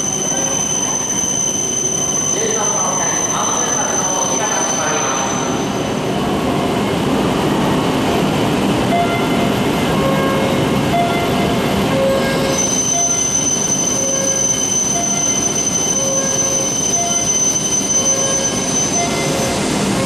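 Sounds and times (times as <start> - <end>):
train rushing rumble: 2.4 - 20.0.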